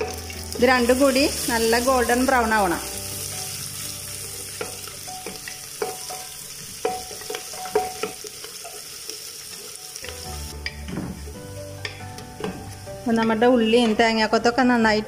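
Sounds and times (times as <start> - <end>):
food sizzling in hot oil: 0.0 - 13.7.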